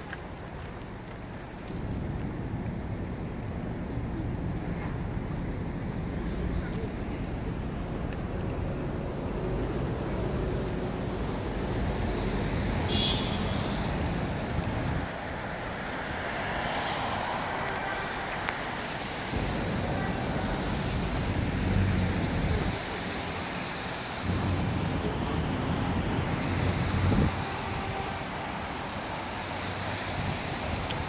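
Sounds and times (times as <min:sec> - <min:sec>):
engine rumble of passing vehicles: 0:00.0 - 0:31.0
traffic on wet road: 0:00.0 - 0:31.0.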